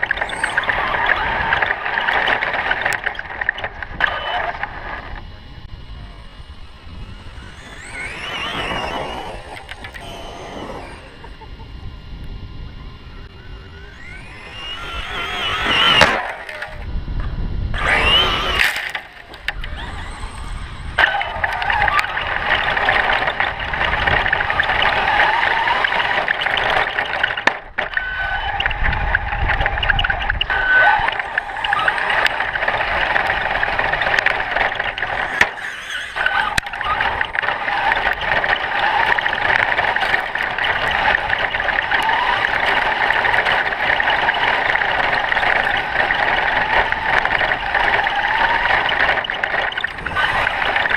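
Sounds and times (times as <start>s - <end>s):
knocks and clicks on rough ground: 0.0s - 5.3s, 7.3s - 10.2s, 13.9s - 50.9s
electric motors whining: 0.0s - 50.9s.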